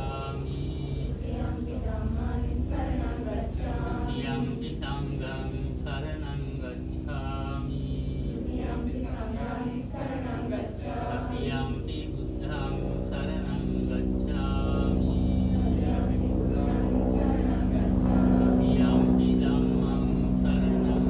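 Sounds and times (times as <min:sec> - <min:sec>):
group chanting: 0:00.0 - 0:06.1, 0:07.5 - 0:21.0
low background hum: 0:00.0 - 0:21.0.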